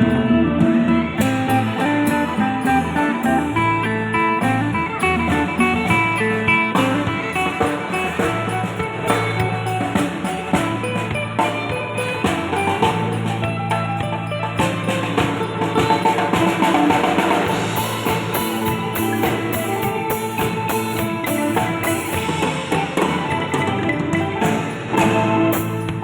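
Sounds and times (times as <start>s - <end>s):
drums and percussion: 0.0s - 26.0s
wooden xylophone notes: 0.0s - 26.0s.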